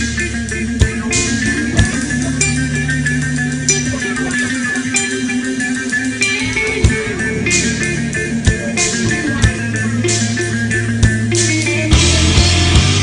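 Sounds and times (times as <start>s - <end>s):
music with guitar bass and drums: 0.0s - 13.0s.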